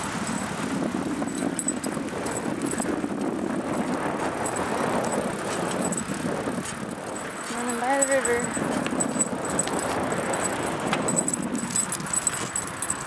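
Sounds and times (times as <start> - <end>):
bicycle tyres rumbling over grass: 0.0 - 12.7.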